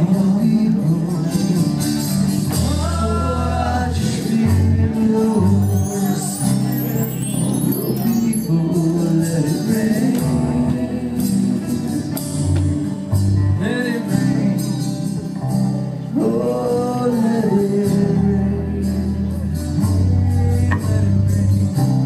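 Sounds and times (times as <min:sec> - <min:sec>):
man singing: 0:00.0 - 0:22.0
worship band playing: 0:00.0 - 0:22.0.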